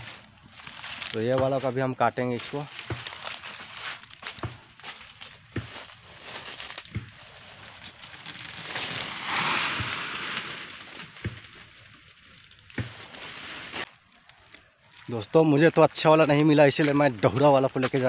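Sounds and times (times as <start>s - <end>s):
rustling leaves and branches: 0.0s - 18.0s.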